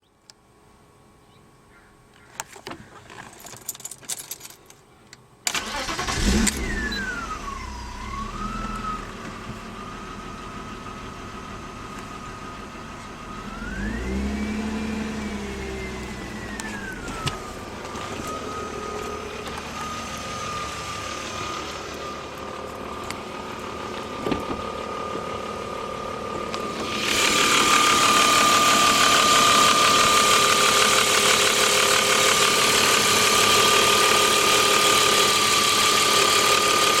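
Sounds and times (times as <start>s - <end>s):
car engine starting and idling: 5.4s - 37.0s
high-pitched alternator whine: 5.9s - 37.0s.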